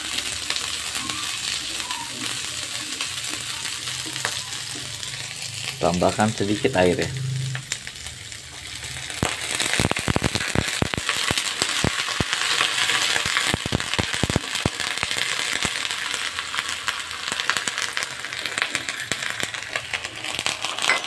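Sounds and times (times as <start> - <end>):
water hissing in hot oil: 0.0 - 21.0
sharp crackles: 0.5 - 21.0.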